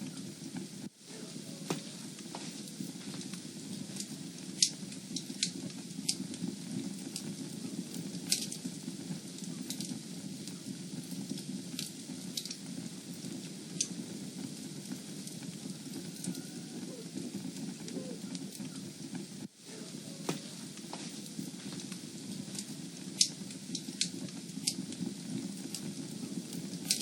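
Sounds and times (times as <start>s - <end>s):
fire burning: 0.0s - 27.0s
fire crackling and popping: 0.0s - 27.0s.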